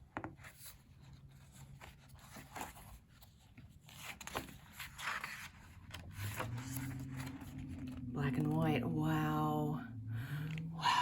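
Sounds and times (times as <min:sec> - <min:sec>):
book pages turning: 0:00.2 - 0:08.7, 0:10.2 - 0:10.7.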